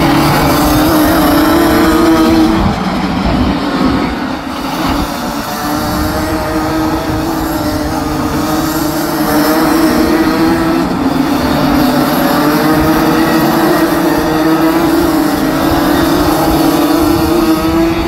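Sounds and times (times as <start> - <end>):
kart engines buzzing past: 0.0 - 18.0.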